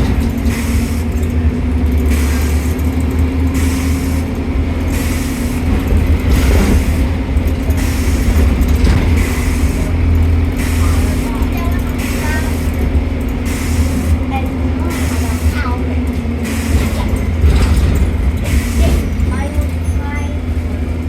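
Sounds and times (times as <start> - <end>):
hissing noise: 0.0 - 19.4
bus engine droning: 0.0 - 21.0.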